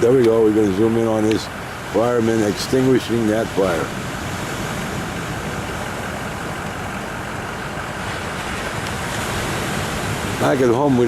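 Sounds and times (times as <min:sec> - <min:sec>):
low engine hum: 0:00.0 - 0:11.0
ocean surf: 0:00.0 - 0:11.0
wind noise: 0:00.0 - 0:11.0.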